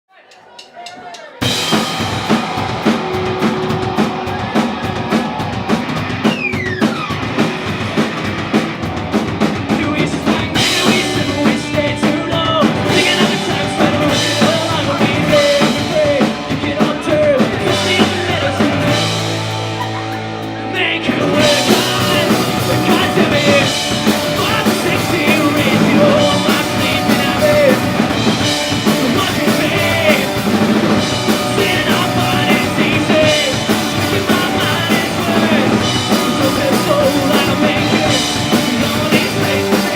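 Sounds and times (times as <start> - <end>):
drum kit: 0.3 - 39.9
rock band playing live: 1.4 - 39.9.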